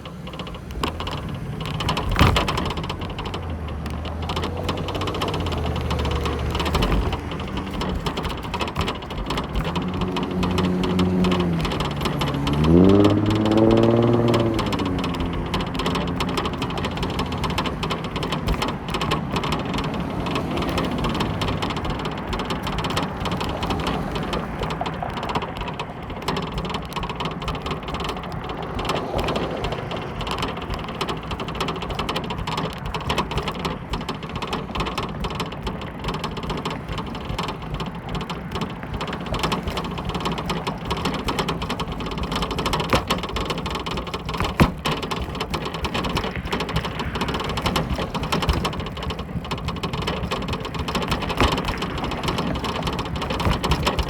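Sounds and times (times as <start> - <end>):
rumbling rattling noise: 0.0 - 54.0
small clicks: 0.0 - 54.0.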